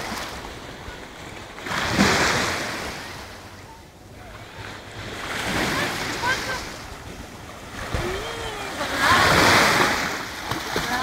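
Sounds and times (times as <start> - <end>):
small waves washing ashore: 0.0 - 11.0.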